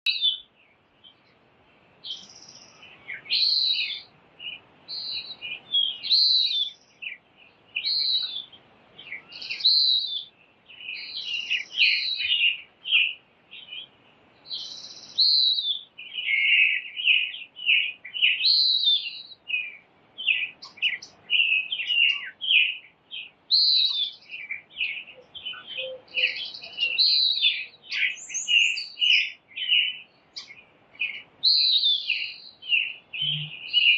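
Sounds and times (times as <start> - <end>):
songbirds chirping and singing: 0.0 - 33.9.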